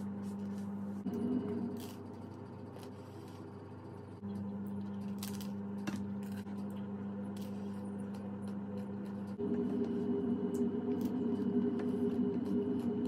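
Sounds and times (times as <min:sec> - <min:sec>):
steady hum: 0:00.0 - 0:13.0
chewing and crunching crust: 0:01.1 - 0:13.0.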